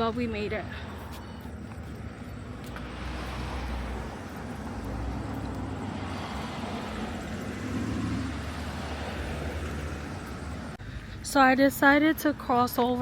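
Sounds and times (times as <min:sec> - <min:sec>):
road traffic rumble: 0:00.0 - 0:13.0
vehicle passing: 0:00.0 - 0:13.0.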